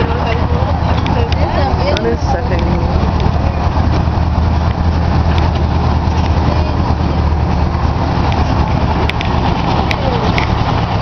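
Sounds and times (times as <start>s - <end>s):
ride vehicle motor rumbling: 0.0s - 11.0s.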